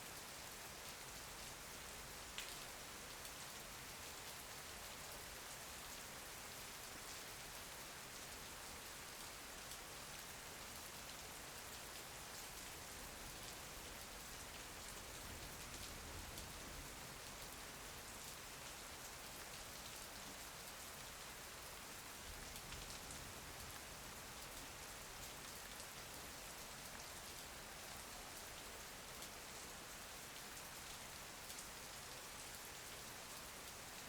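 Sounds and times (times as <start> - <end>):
steady rain patter: 0.0 - 34.0.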